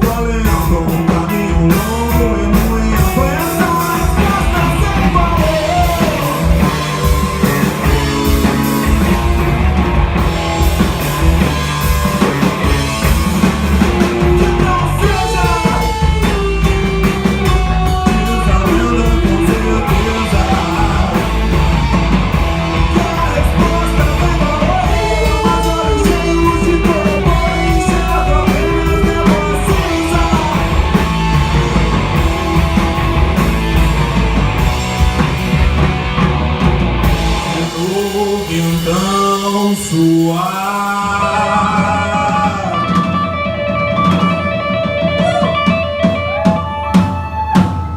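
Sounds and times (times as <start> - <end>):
bass guitar: 0.0 - 47.9
drums: 0.0 - 47.9
electric guitars: 0.0 - 47.9
rock band playing: 0.0 - 47.9.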